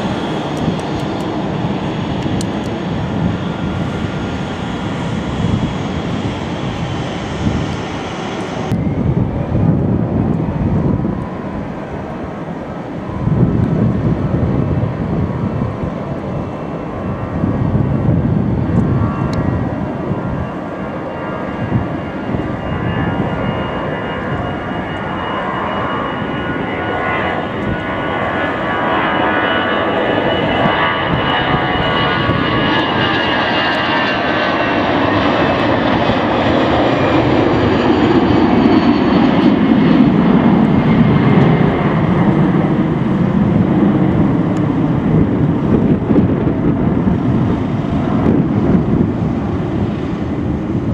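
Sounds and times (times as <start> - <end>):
deep jet engine rumble: 0.0 - 50.9.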